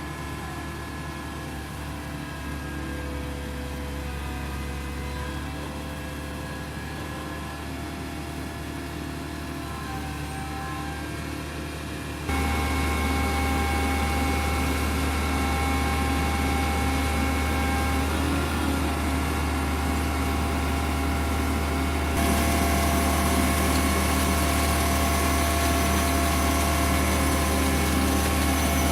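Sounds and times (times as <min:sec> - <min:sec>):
concrete pump truck running: 0:00.0 - 0:28.9.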